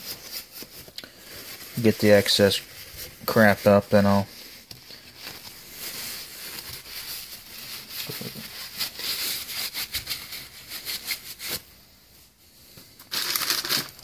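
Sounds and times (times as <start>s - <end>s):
paper towel scrubbing metal: 0.0s - 11.8s.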